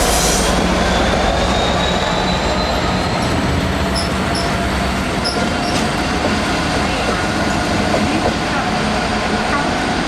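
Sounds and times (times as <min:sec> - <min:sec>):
train rumbling past: 0:00.0 - 0:10.0.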